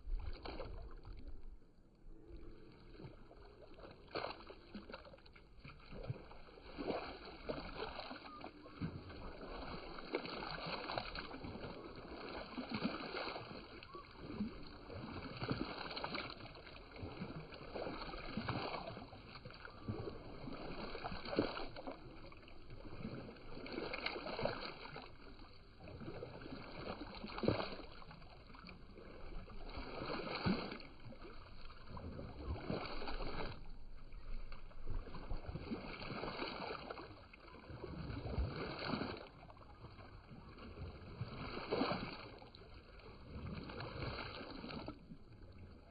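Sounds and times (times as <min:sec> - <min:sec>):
water sloshing and gurgling: 0:00.0 - 0:45.9
water splashing surges: 0:00.0 - 0:45.9.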